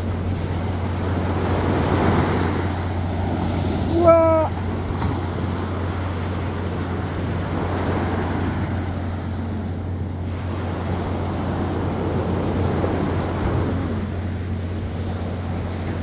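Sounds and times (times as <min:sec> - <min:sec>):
small waves washing up beach: 0:00.0 - 0:16.0
wind rumble on microphone: 0:00.0 - 0:16.0.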